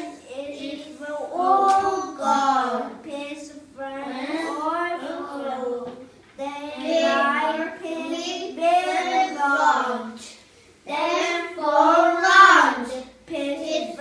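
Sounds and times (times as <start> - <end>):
child singing: 0.0 - 10.2, 10.9 - 14.0.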